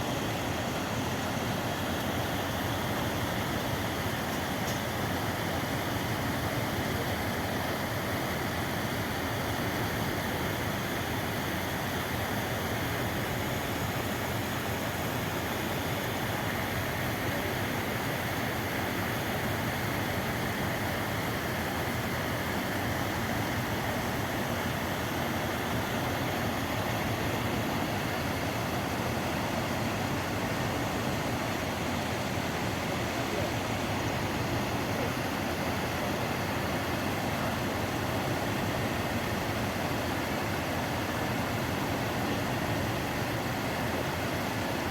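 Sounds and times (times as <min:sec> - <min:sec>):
mountain stream rushing: 0:00.0 - 0:44.9.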